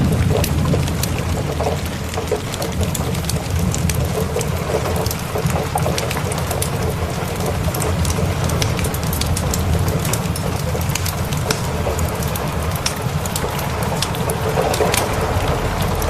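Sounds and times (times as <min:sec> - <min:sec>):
fireplace crackling: 0:00.0 - 0:16.0
steady rain: 0:00.0 - 0:16.0
thunder rumble: 0:00.0 - 0:16.0.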